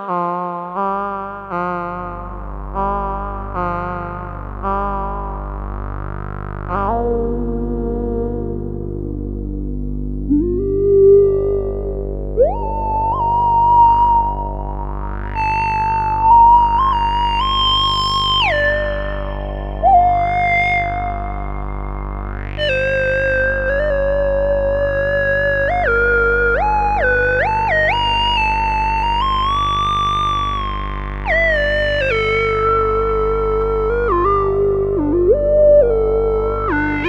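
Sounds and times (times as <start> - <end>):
low synth drone: 1.0 - 37.0
gliding synthesizer lead: 6.4 - 37.0.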